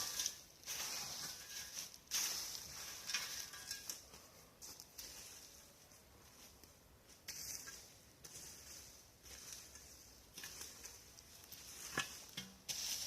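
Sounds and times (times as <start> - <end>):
leaf litter rustling: 0.0 - 6.7, 7.4 - 13.0.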